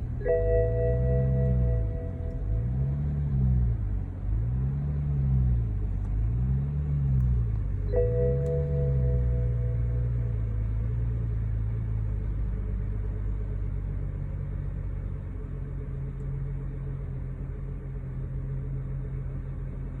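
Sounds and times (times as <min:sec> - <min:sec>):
car engine idling unevenly: 0:00.0 - 0:20.0.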